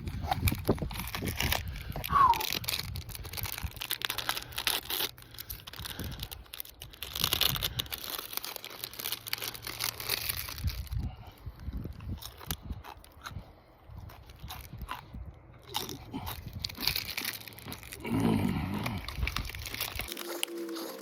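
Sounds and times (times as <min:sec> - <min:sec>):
foil wrapper crinkling: 0:00.0 - 0:13.1, 0:15.6 - 0:21.0.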